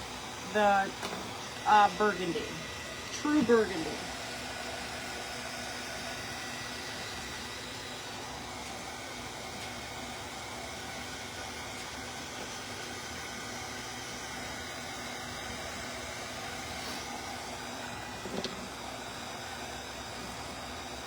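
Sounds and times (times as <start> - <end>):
faint constant hum: 0.0 - 20.7.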